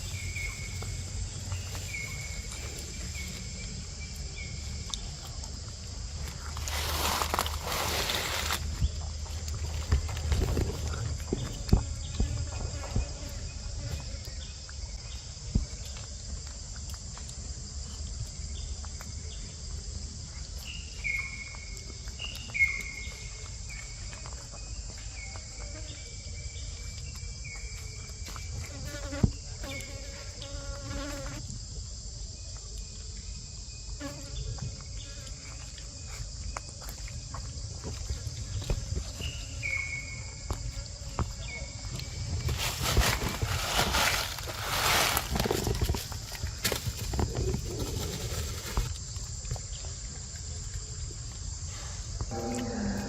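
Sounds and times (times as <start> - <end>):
insect chorus: 0.0 - 53.0.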